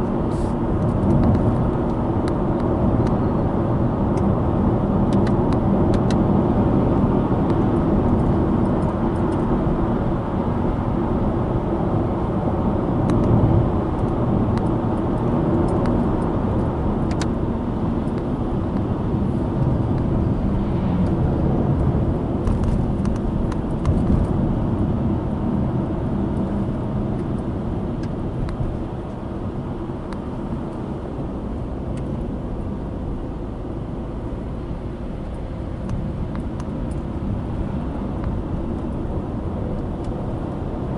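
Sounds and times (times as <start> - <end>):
car engine: 0.0 - 40.9
tyres rumbling on road: 0.0 - 40.9.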